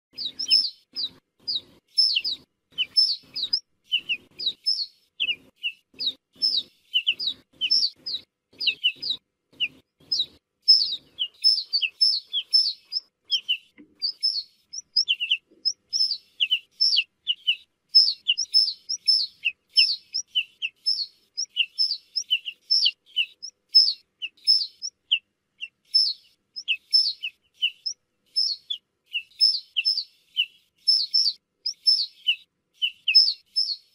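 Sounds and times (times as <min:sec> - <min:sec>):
bird calling sharp notes: 0:00.1 - 0:33.9.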